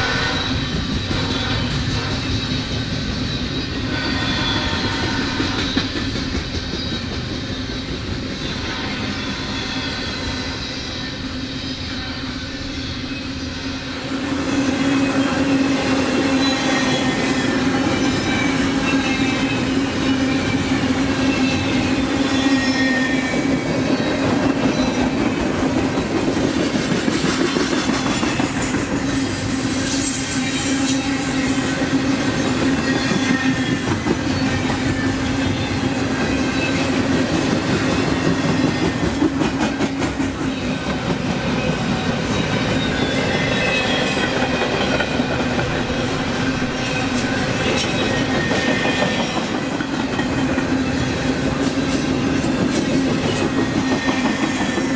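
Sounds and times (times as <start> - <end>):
high wheel squeals: 0.0 - 25.4, 27.9 - 39.8, 40.4 - 54.9
train wheels rumbling on rails: 0.0 - 54.9.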